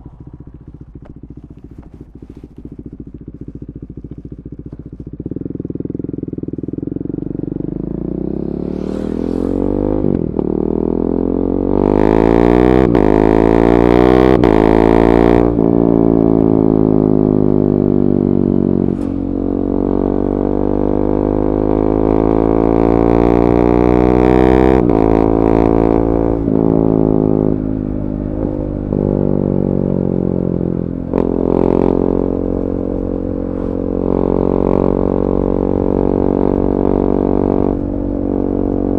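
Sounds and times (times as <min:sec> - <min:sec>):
motorcycle engine revving hard: 0:05.4 - 0:27.6, 0:28.4 - 0:38.9.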